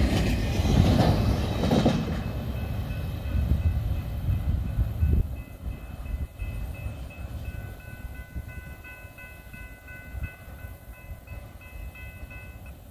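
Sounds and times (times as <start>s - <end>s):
freight train rumbling: 0.0s - 12.9s
faint high steady tones: 2.2s - 12.9s.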